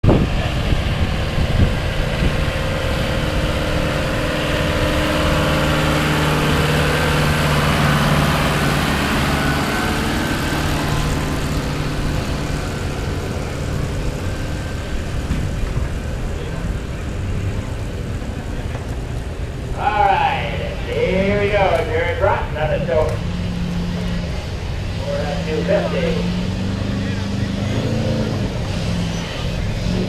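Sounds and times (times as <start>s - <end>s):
diesel pickup engine running: 0.0s - 30.0s.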